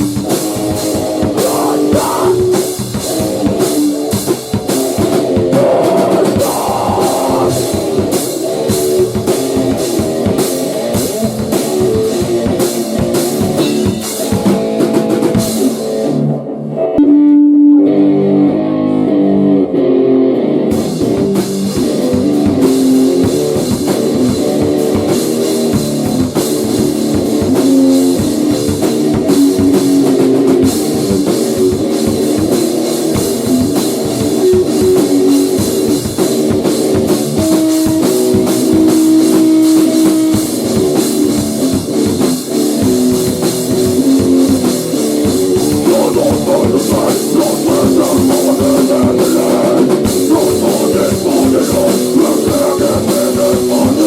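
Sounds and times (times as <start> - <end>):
electric guitar playing alone: 0.0 - 54.0
rock band playing: 0.0 - 54.0.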